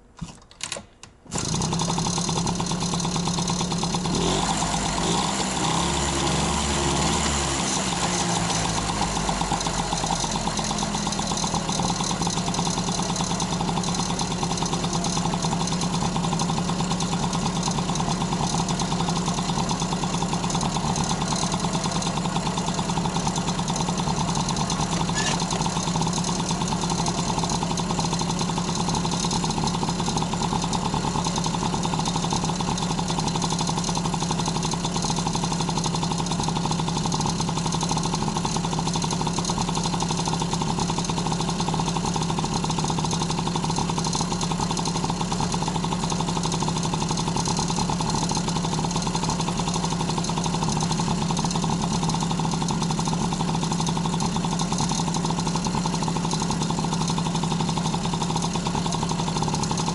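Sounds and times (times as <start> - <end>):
two-stroke engine idling: 1.4 - 59.9.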